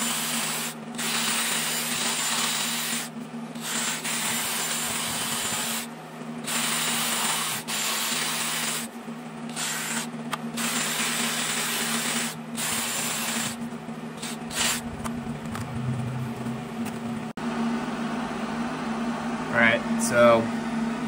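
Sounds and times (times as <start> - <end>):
grinder burr grinding metal: 0.0 - 17.3
grinder motor whine: 0.0 - 17.3.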